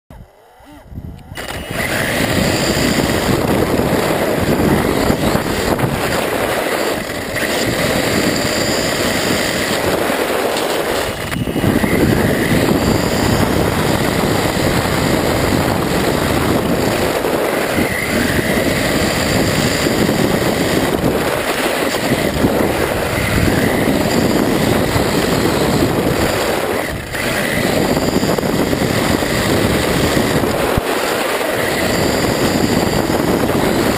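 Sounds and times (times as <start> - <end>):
wheels rumbling on asphalt: 0.1 - 33.9.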